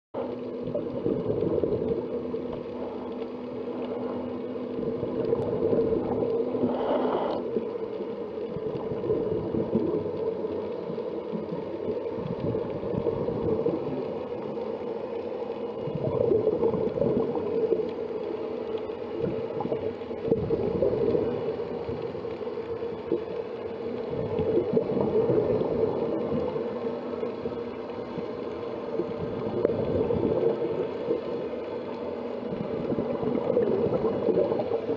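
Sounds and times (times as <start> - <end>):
muffled underwater hum: 0.2 - 34.9
watery noise: 0.2 - 34.9.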